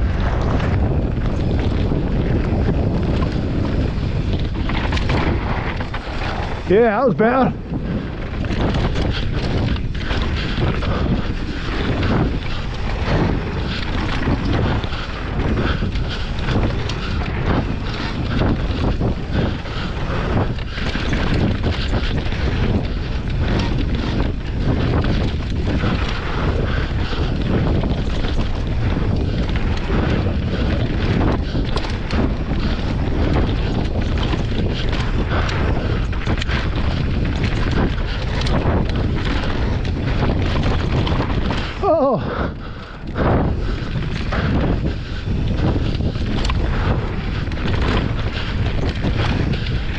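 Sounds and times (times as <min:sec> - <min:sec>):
tyres rushing on dirt: 0:00.0 - 0:49.9
wind buffeting microphone: 0:00.0 - 0:49.9
bike rattling knocks: 0:00.2 - 0:42.2.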